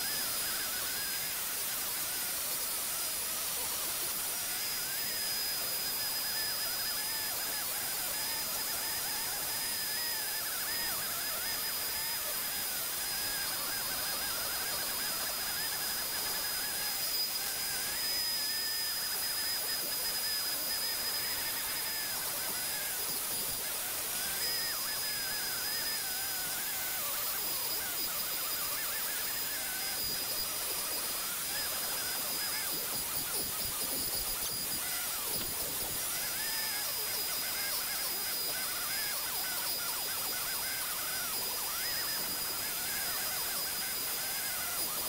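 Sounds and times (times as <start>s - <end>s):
burr grinding wood: 0.0s - 45.0s
rotary tool high-pitched whine: 0.0s - 45.0s.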